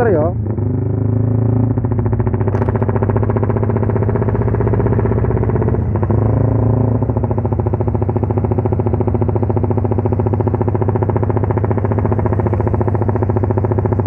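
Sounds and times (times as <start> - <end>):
motorcycle exhaust chopping: 1.7 - 14.0.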